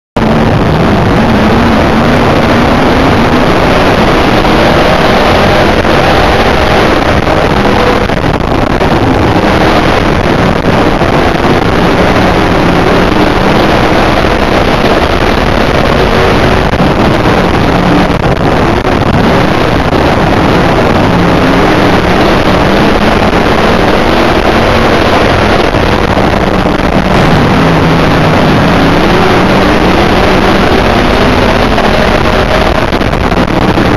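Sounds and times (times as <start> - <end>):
race car engine revving: 0.2 - 33.9.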